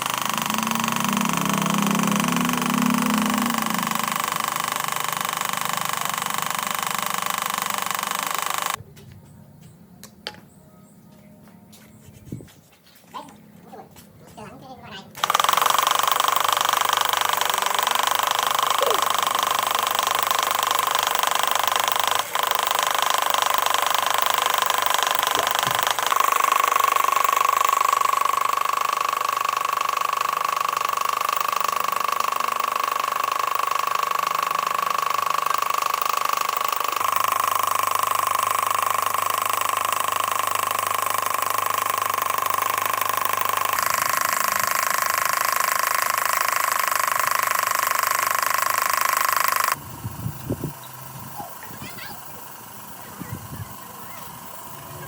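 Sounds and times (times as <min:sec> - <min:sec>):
power tool whining: 0:00.0 - 0:08.8, 0:15.1 - 0:55.0.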